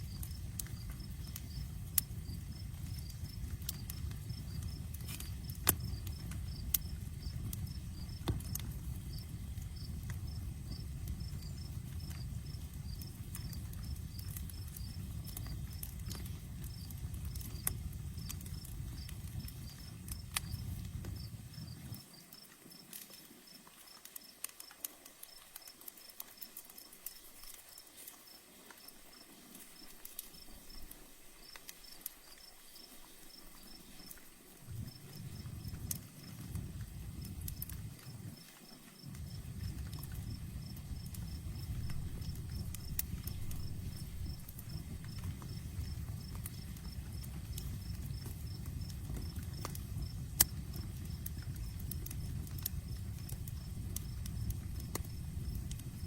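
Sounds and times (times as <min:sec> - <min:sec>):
crickets chirping: 0:00.0 - 0:24.4, 0:25.2 - 0:56.0
campfire crackling and popping: 0:00.0 - 0:56.0.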